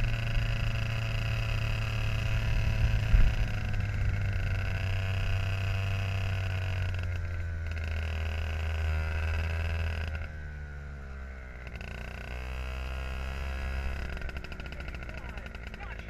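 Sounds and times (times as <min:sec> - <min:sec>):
kart engine running at low revs: 0:00.0 - 0:16.0.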